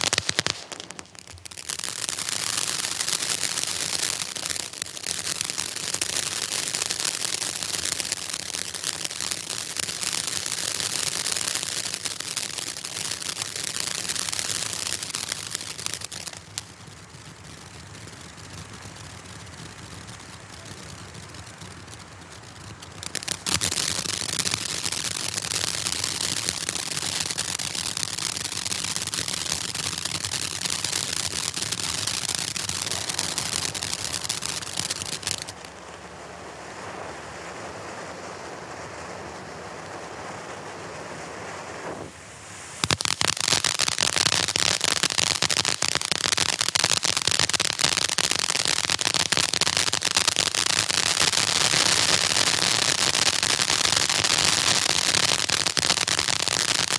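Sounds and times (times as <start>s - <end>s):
firework fountain hissing and crackling: 0.0s - 56.9s.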